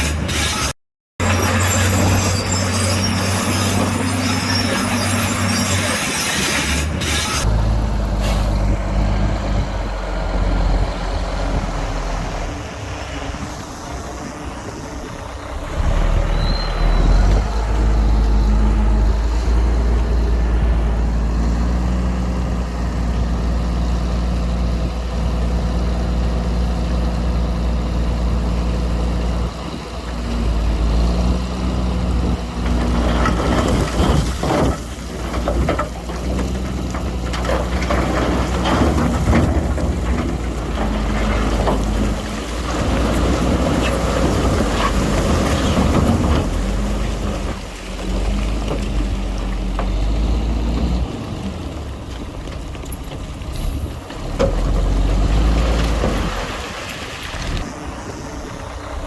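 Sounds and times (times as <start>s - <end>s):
heavy diesel engines working: 0.0s - 59.0s.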